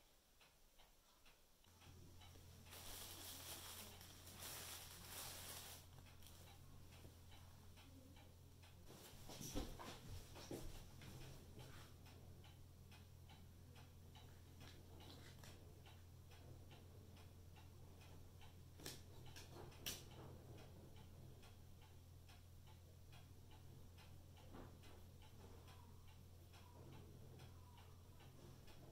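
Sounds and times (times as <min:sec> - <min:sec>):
clock ticking: 0:00.0 - 0:28.9
low steady hum: 0:00.0 - 0:28.9.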